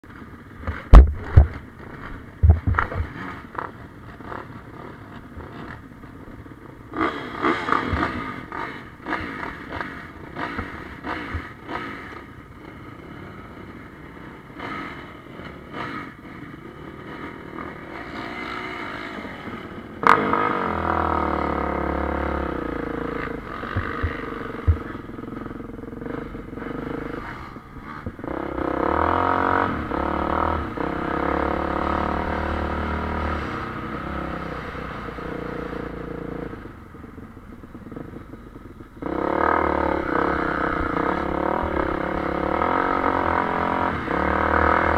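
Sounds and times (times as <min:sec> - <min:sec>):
motocross bike engines revving: 0:00.1 - 0:44.9.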